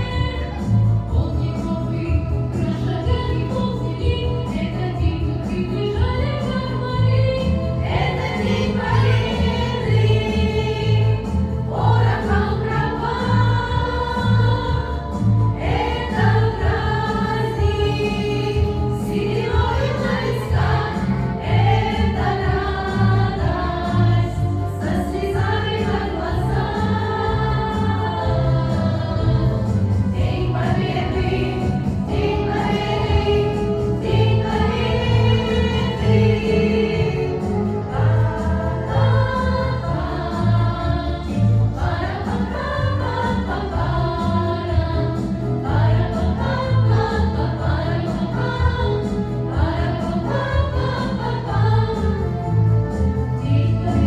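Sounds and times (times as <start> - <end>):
choir singing: 0.0 - 54.0
rhythmic accompaniment: 0.0 - 54.0.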